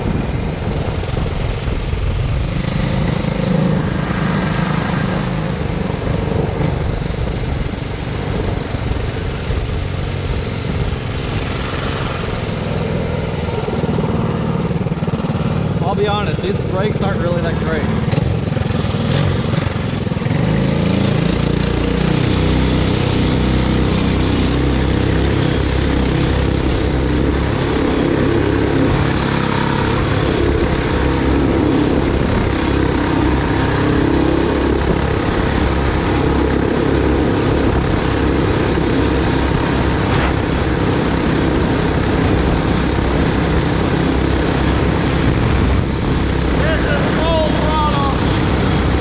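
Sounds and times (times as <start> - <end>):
kart engines high-revving drone: 0.0 - 49.0.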